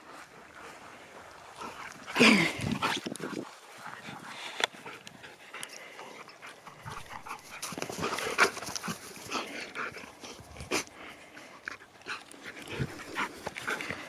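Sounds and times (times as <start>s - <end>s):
dog panting: 0.1s - 14.0s.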